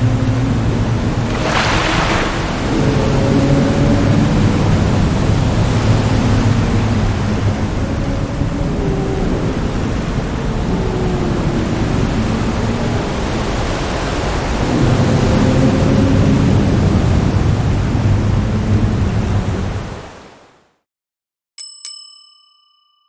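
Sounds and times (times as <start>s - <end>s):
deep underwater rushing: 0.0s - 20.2s.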